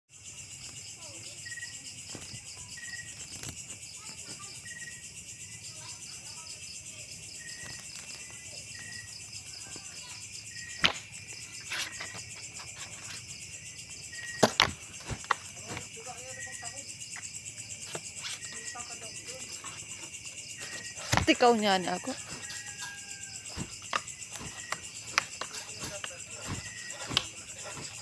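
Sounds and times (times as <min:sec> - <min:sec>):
cricket chirp: 0:00.1 - 0:28.0
crickets trilling: 0:00.1 - 0:28.0.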